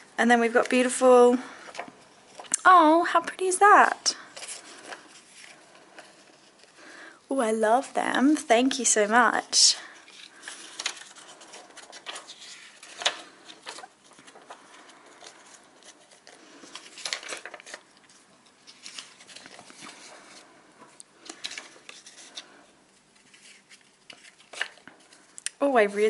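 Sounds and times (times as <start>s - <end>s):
paper rustling and crinkling: 0.5s - 2.6s, 3.8s - 6.9s, 8.6s - 26.0s.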